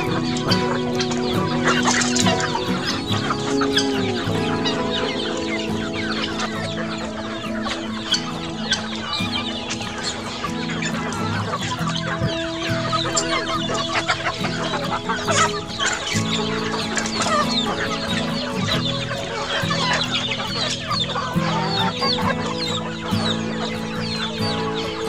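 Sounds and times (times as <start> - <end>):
background music: 0.0 - 25.0
chickens clucking and chicks cheeping: 0.0 - 25.0.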